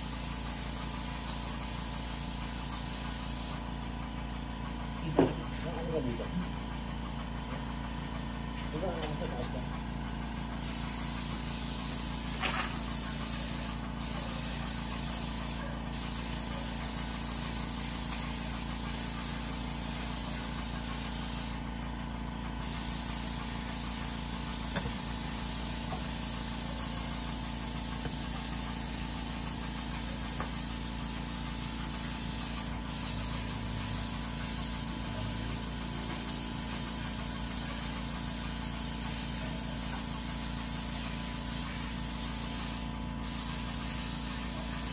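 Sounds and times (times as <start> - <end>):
spray gun hissing: 0.0 - 3.6, 10.6 - 21.6, 22.6 - 44.9.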